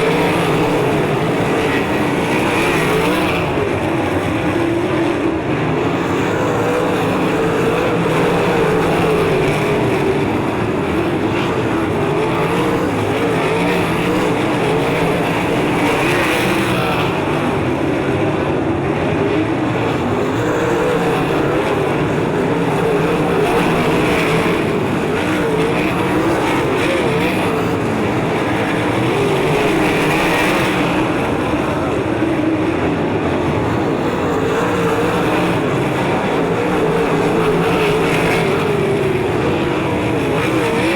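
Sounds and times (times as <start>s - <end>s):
racing car engines running hard: 0.0s - 40.9s.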